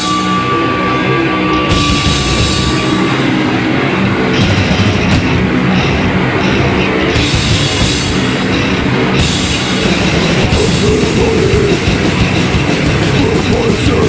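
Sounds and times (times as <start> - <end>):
bass guitar: 0.0 - 14.0
distorted electric guitars: 0.0 - 14.0
drum kit: 0.0 - 14.0.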